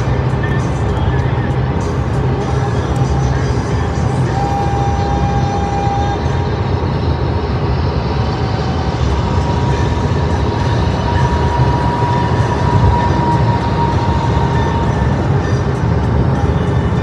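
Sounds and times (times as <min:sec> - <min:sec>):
faint steady whine: 0:00.0 - 0:17.0
truck passing: 0:00.0 - 0:17.0
vehicle road rumble: 0:00.0 - 0:17.0.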